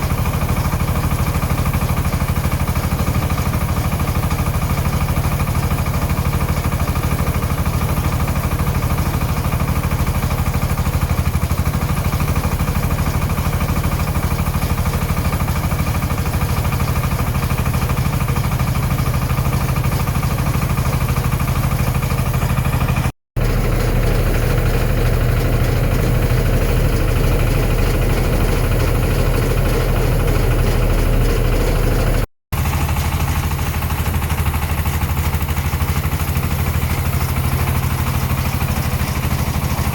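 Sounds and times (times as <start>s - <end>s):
engine running with rapid knocking: 0.0s - 39.9s.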